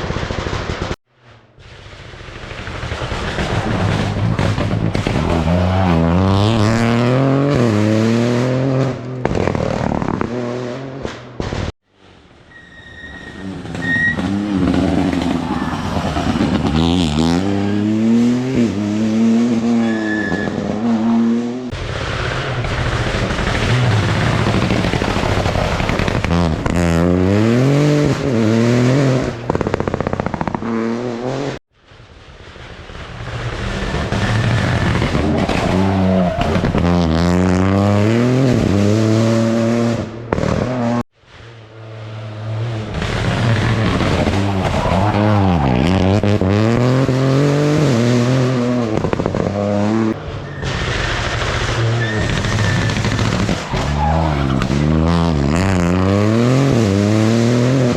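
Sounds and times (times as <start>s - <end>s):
rally car engines revving: 3.0s - 11.4s, 13.2s - 31.6s, 33.2s - 57.9s.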